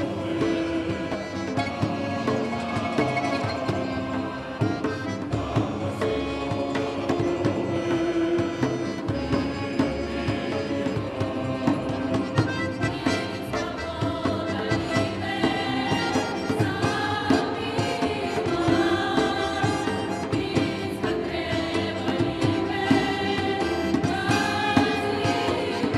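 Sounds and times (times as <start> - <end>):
mixed choir singing folk song: 0.0 - 25.9.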